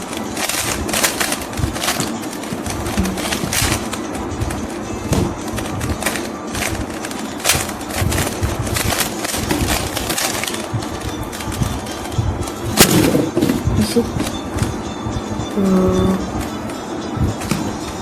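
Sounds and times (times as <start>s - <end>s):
puzzle cube layers clicking: 0.0s - 14.7s.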